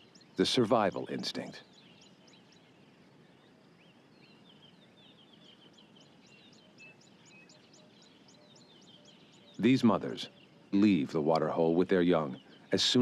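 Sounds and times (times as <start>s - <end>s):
soft bird twittering: 0.0s - 13.0s.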